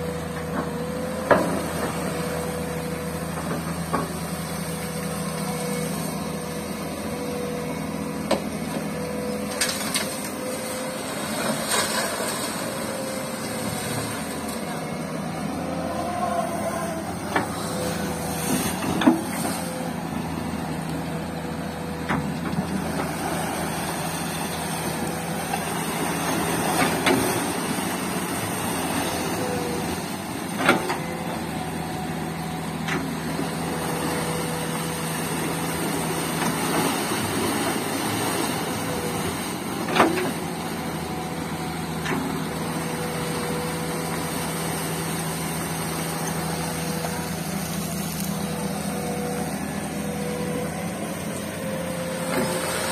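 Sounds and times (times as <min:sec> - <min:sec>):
excavator diesel engine whining: 0:00.0 - 0:52.9.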